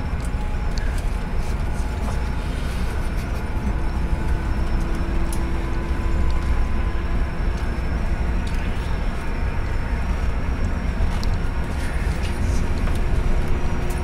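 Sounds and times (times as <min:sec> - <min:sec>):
road and engine rumble: 0:00.0 - 0:14.0
strong wind buffeting: 0:00.0 - 0:14.0.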